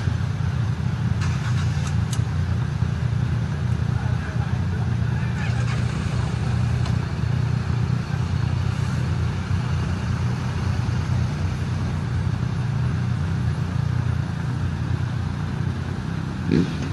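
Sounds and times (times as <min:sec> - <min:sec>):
motorcycle engines idling: 0:00.0 - 0:16.9.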